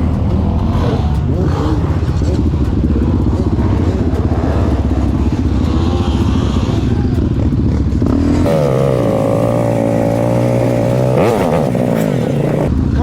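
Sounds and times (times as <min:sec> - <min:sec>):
engine revving: 0:00.0 - 0:13.0
off-road vehicle engines rumbling: 0:00.0 - 0:13.0.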